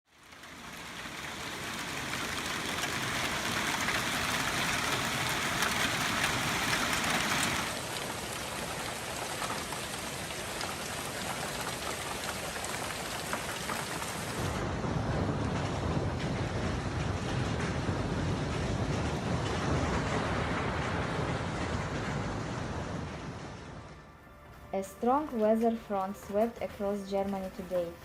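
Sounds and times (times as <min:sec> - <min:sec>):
heavy rain pouring: 0:00.1 - 0:24.3
light thin rain: 0:00.1 - 0:28.0.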